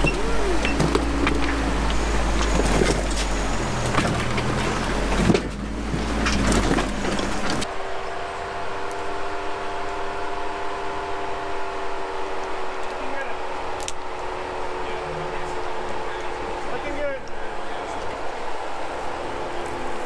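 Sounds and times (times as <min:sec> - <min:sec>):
engine idling hum: 0:00.0 - 0:20.0
off-road engine rumbling: 0:00.0 - 0:20.0.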